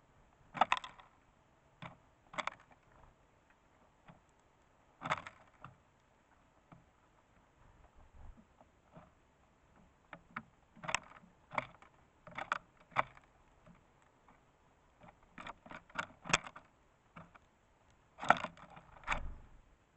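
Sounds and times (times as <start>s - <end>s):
bird pecking seeds: 0.5s - 19.6s.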